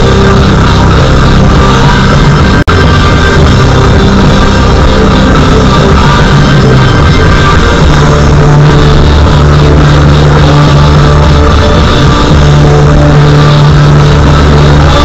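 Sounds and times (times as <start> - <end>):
loud rock music with guitar: 0.0 - 15.0.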